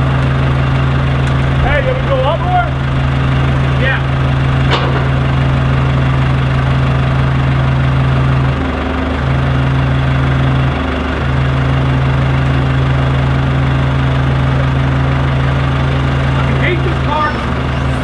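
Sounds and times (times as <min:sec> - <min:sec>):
forklift engine idling: 0:00.0 - 0:18.0.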